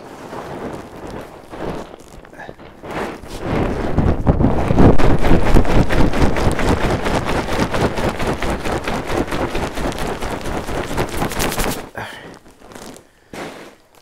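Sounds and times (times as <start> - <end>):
plastic bag shaken in cloth: 0.0 - 14.0.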